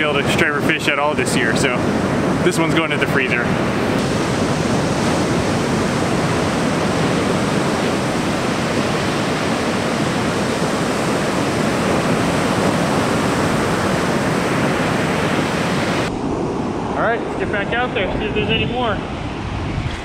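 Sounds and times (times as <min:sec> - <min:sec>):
ocean surf breaking: 0:00.0 - 0:19.8.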